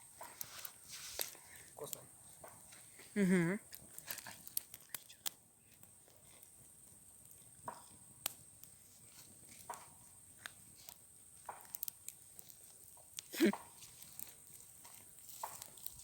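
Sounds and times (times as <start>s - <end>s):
chewing and crunching bread crust: 0.2s - 16.0s.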